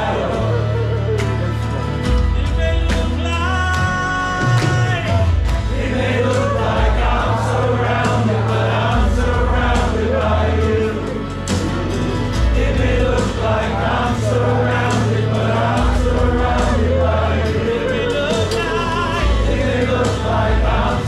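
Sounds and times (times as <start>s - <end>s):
group of voices singing: 0.0s - 21.0s
worship band playing: 0.0s - 21.0s.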